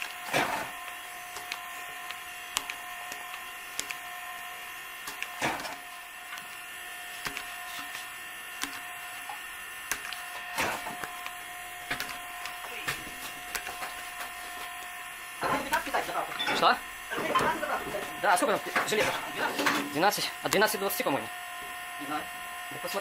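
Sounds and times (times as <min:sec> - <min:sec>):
small motor whining: 0:00.0 - 0:23.0.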